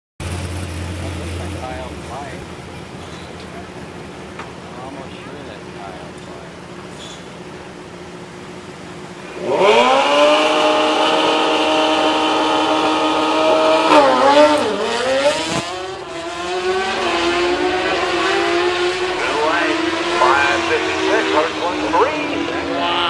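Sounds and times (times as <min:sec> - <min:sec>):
motorcycle engine revving: 0:00.2 - 0:07.7, 0:08.6 - 0:23.0.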